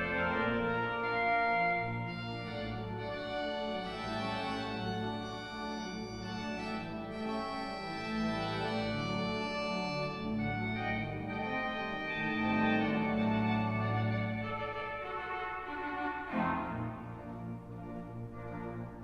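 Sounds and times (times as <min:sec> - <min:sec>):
pipe organ playing chords: 0:00.0 - 0:19.0.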